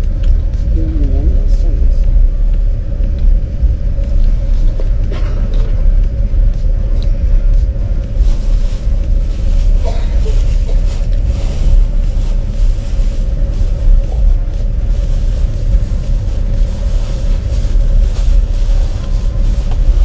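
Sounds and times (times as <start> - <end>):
mid-pitched hum: 0.0 - 20.0
vehicle rumble: 0.0 - 20.0.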